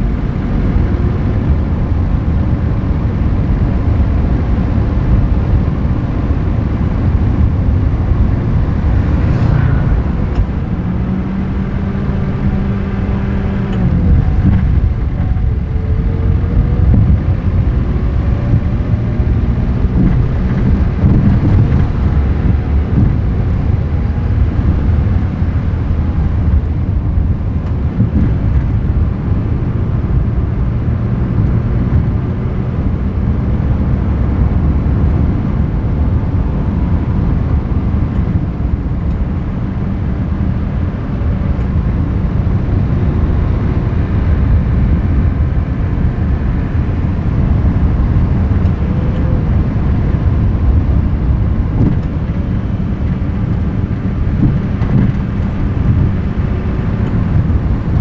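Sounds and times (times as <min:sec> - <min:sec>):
vehicle road noise: 0:00.0 - 0:58.0.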